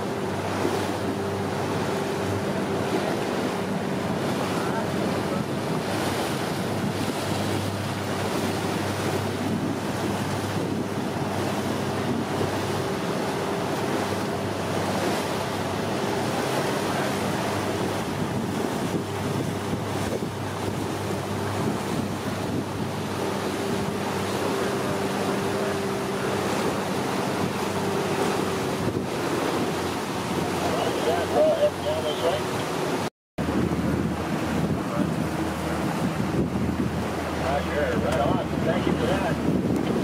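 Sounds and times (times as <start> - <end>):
wind rushing over microphone: 0.0 - 31.4, 32.1 - 40.0
boat engine humming: 0.0 - 40.0
water washing against boat hull: 0.0 - 40.0.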